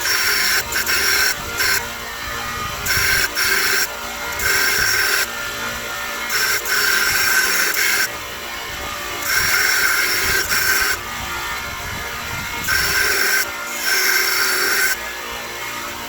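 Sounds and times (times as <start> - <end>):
belt grinder grinding steel: 0.0 - 16.0
grinder running quietly: 0.0 - 16.0.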